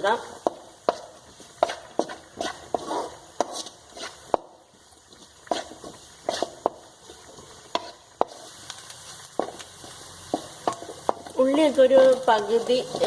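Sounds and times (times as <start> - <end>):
vegetables sizzling in oil: 0.0 - 13.0
spatula scraping and clicking on pan: 0.4 - 13.0.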